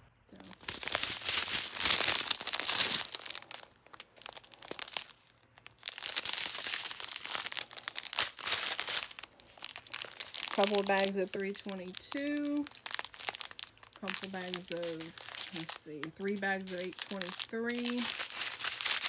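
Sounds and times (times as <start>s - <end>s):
plastic bags crinkling: 0.3s - 19.0s.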